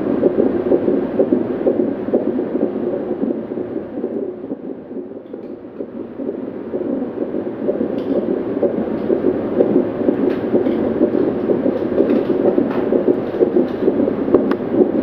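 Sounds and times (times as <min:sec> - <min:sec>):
fetal heartbeat through monitor speaker: 0:00.0 - 0:15.0.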